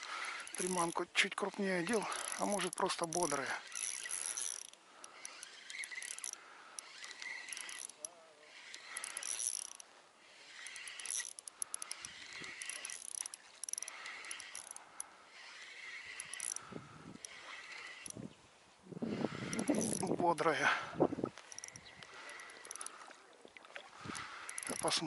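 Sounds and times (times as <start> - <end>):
spinning reel being cranked: 0.0 - 18.3, 19.3 - 20.5, 21.4 - 23.0, 24.1 - 25.0.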